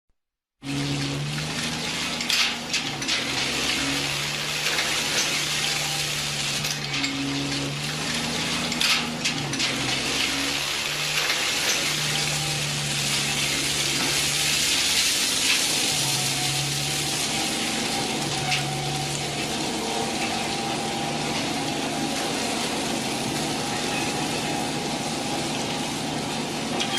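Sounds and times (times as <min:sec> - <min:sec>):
excavator diesel engine: 0:00.6 - 0:26.9.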